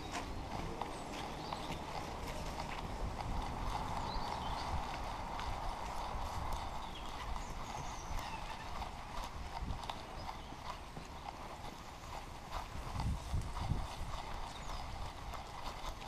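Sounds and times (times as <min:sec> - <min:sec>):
dog paws running on grass: 0:00.0 - 0:16.0
wind rumble on microphone: 0:00.0 - 0:16.0.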